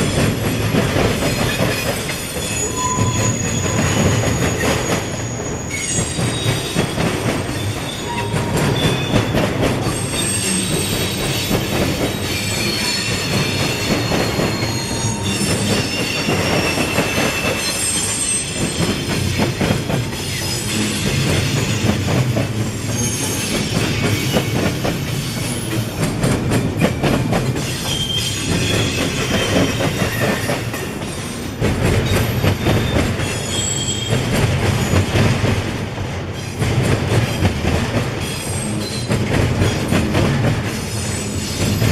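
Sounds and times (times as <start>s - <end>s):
train wheels squealing: 0.0s - 35.5s, 36.3s - 36.6s, 38.2s - 41.9s
freight train rumble: 0.0s - 41.9s.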